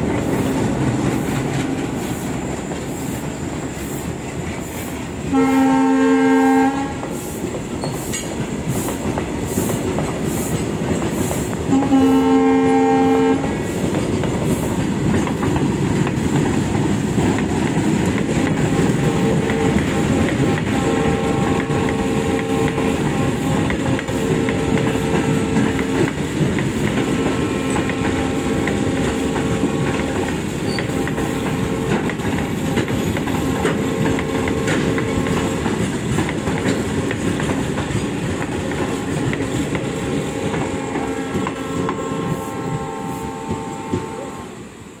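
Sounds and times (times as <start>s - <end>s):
train wheels clattering over rail joints: 0.0s - 5.8s, 6.8s - 44.2s.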